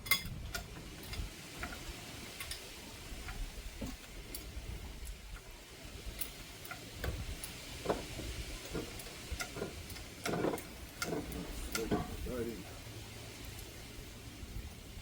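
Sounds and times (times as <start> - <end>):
hand tools clicking on metal: 0.0 - 12.5.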